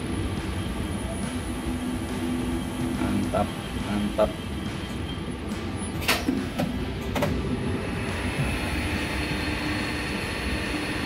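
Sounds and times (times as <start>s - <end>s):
machine high whine: 0.0s - 11.0s.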